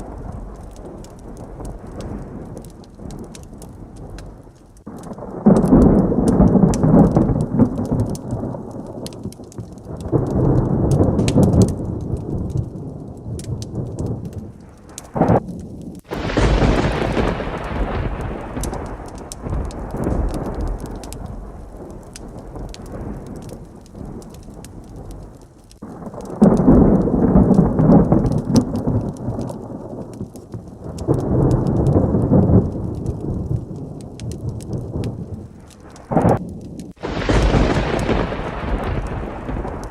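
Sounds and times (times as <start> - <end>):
close thunderclap: 0.0 - 39.9
heavy rain: 0.0 - 39.9
thunder rumbling: 0.0 - 39.9.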